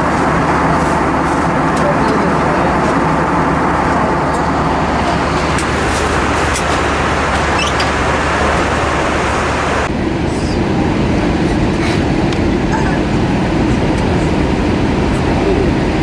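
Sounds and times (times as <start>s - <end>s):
airflow rushing: 0.0s - 16.0s
jet engines humming: 0.0s - 16.0s.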